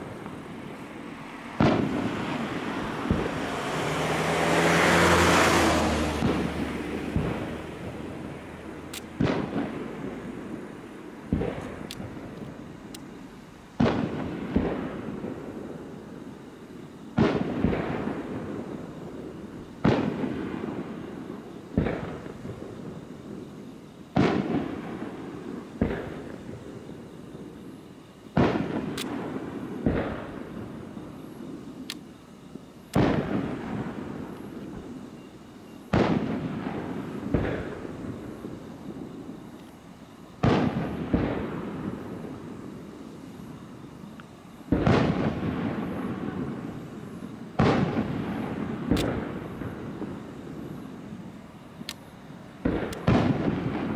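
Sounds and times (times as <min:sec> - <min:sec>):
fireworks booming: 0:00.0 - 0:53.9.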